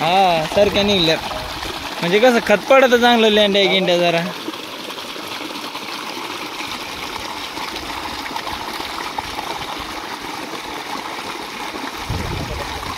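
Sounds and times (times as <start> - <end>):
water running into trough: 0.0 - 12.9.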